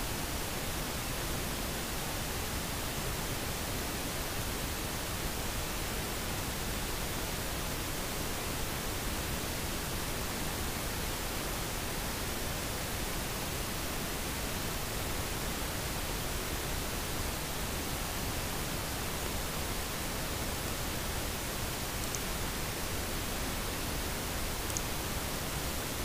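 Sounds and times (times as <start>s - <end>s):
microphone hiss: 0.0s - 26.0s.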